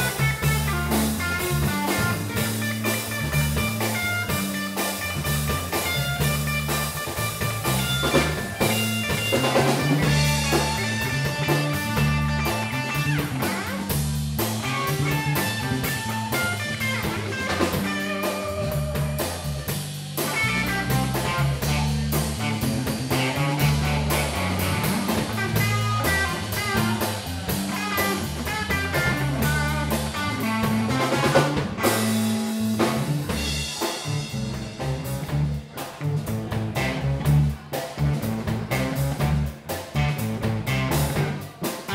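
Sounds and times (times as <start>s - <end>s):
drum kit: 0.0s - 41.9s
electric bass: 0.0s - 41.9s
electric guitar lead: 0.0s - 41.9s.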